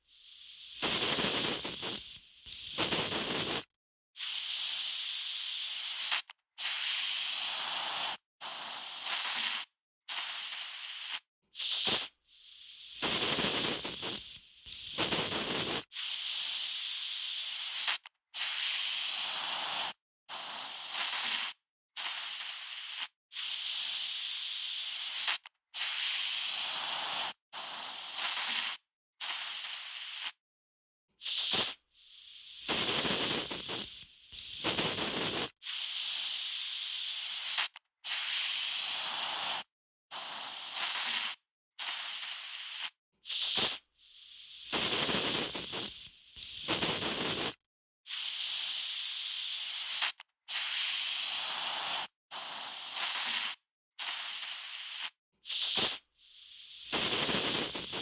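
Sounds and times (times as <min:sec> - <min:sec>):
aerosol spray can bursts: 0:00.1 - 0:12.2, 0:12.8 - 0:16.4, 0:17.6 - 0:23.8, 0:24.7 - 0:30.4, 0:31.2 - 0:36.3, 0:37.0 - 0:58.0.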